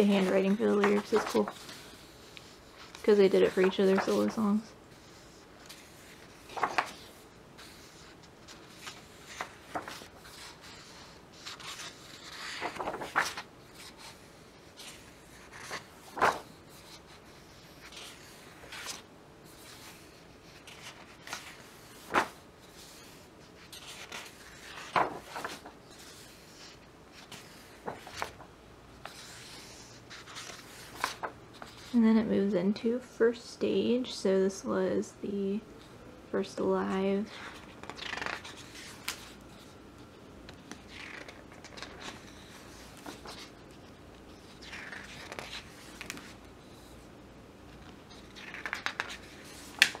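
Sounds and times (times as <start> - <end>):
book pages turning: 0.0 - 32.0, 37.3 - 39.8, 40.4 - 47.0, 47.7 - 50.0.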